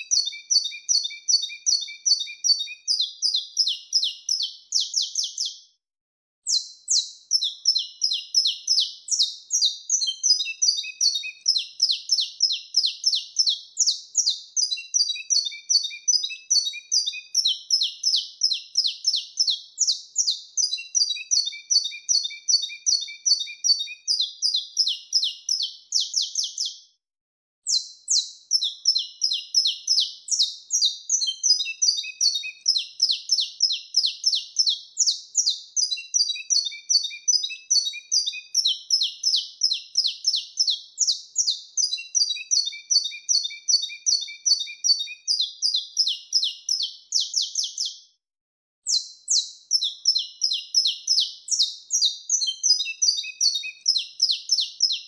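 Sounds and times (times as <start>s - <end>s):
finch singing high chirps and trills: 0.0s - 5.7s, 6.5s - 26.8s, 27.7s - 48.1s, 48.8s - 55.0s.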